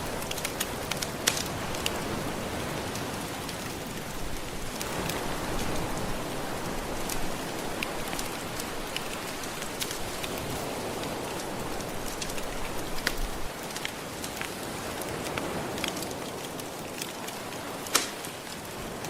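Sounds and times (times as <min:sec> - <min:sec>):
gentle ocean waves: 0:00.0 - 0:19.0
wood fire crackling: 0:00.0 - 0:19.0.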